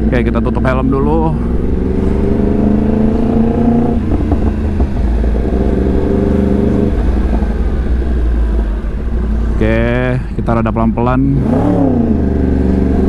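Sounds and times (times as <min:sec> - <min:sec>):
motorcycle engine low rumble: 0:00.0 - 0:13.0.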